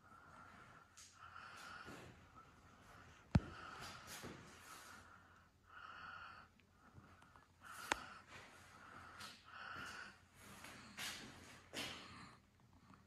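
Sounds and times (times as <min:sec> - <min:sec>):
soft breathing close to microphone: 0:00.0 - 0:13.0.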